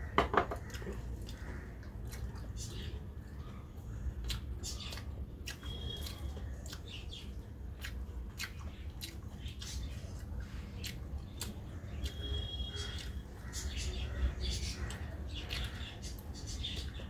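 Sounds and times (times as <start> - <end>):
steady low hum: 0.0 - 17.0
wet chewing and mouth clicks: 0.6 - 17.0.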